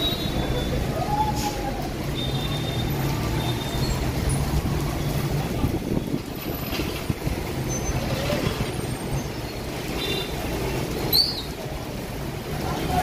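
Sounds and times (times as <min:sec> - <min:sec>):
slow traffic engines: 0:00.0 - 0:13.0.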